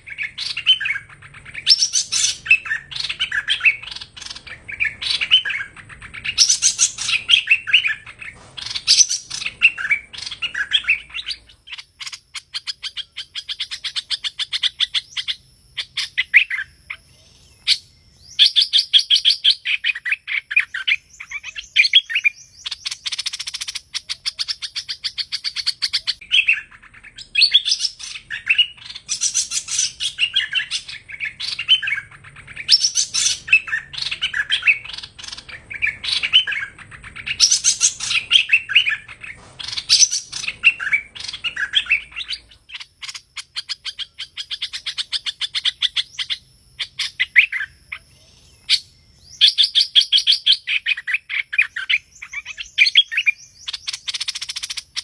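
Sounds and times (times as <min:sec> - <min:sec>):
bird song chattering: 0:00.0 - 0:55.0
rapid repeated bird notes: 0:00.0 - 0:55.0.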